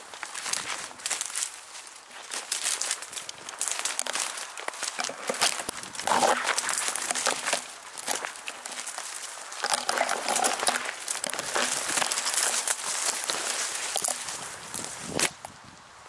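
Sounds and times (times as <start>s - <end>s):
branches rustling and scraping: 0.0s - 16.0s
leaves and twigs crunching underfoot: 0.0s - 16.0s.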